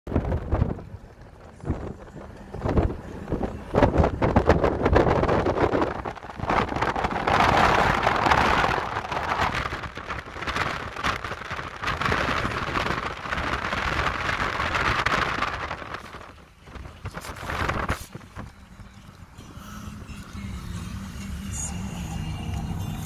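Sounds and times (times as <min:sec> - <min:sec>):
wind buffeting microphone: 0:00.1 - 0:20.2
road noise: 0:00.1 - 0:23.0.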